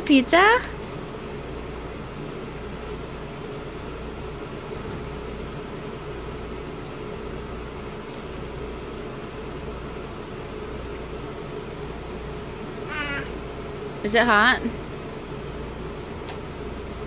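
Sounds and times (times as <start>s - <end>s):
mechanical hum with hiss: 0.0s - 17.0s.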